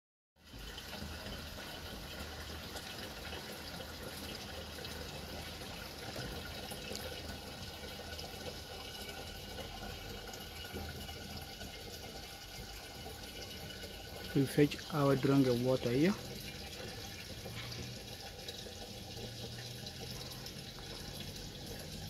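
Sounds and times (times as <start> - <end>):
water running into plastic container: 0.4 - 22.0.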